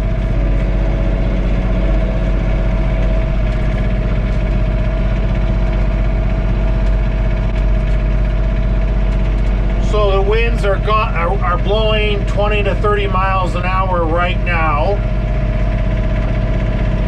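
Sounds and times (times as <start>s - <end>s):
diesel tractor engine running: 0.0s - 17.0s
steady whine: 0.0s - 17.0s.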